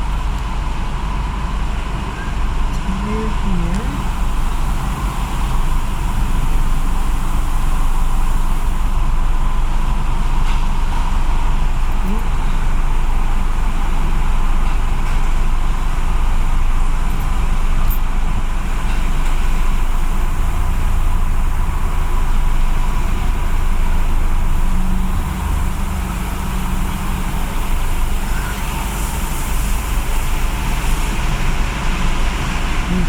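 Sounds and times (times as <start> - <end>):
car wash rumbling: 0.0 - 33.0.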